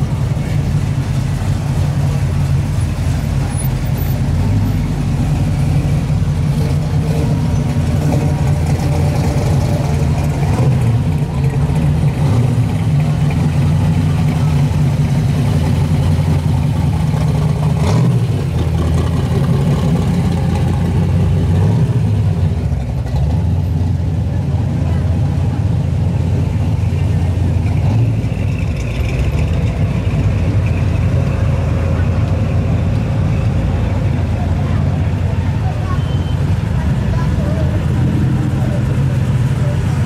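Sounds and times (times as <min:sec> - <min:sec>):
car engines deep exhaust rumble: 0:00.0 - 0:40.0.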